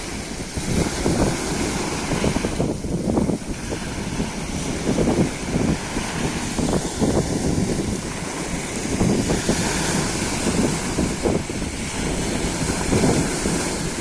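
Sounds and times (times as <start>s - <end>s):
sea surf washing: 0.0s - 14.0s
wind buffeting microphone: 0.0s - 14.0s.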